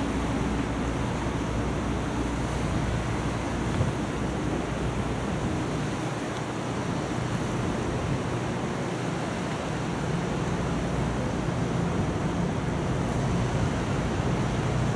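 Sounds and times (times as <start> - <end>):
wind: 0.0 - 14.9.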